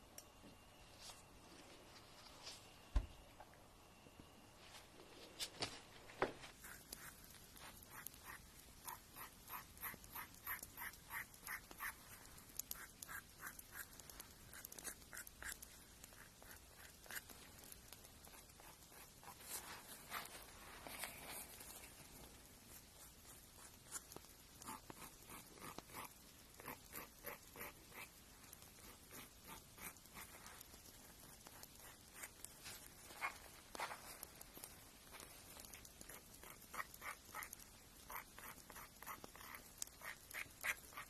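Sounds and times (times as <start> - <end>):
nail file scraping: 6.5 - 22.0, 22.6 - 41.0.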